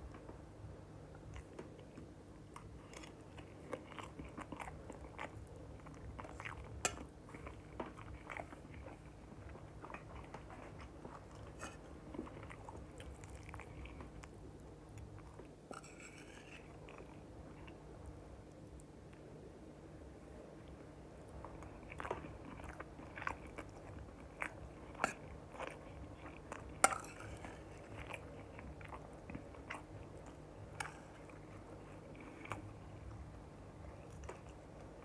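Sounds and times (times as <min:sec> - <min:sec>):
steady low hum: 0:00.0 - 0:35.0
chewing food: 0:01.1 - 0:19.3, 0:20.6 - 0:35.0.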